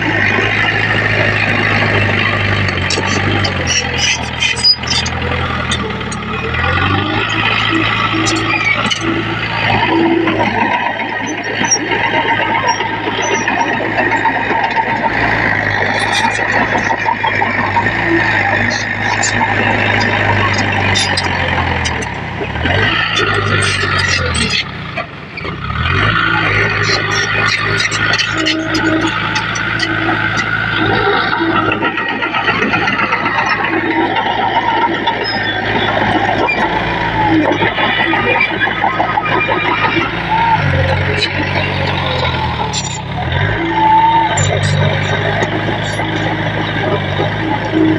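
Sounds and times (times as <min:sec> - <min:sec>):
diesel engine hum: 0:00.0 - 0:47.9
machinery rattling: 0:00.0 - 0:47.9
short squeaks: 0:00.1 - 0:24.8, 0:25.4 - 0:47.9.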